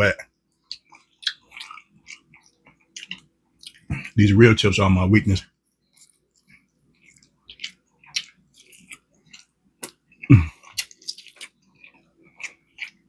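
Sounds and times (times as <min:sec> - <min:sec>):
wet chewing and mouth smacks: 0:00.5 - 0:04.2, 0:05.7 - 0:13.0.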